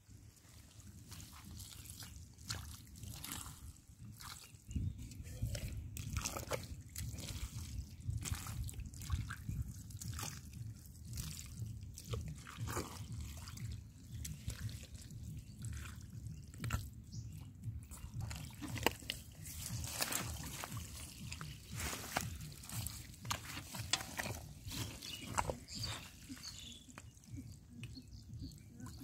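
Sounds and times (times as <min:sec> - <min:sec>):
feet squelching in wet mud: 0:00.3 - 0:29.0
water dripping: 0:00.8 - 0:29.0.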